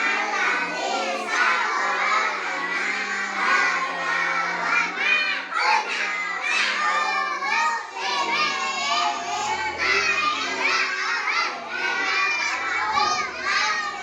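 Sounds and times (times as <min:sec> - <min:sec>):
children singing and shouting: 0:00.0 - 0:14.0.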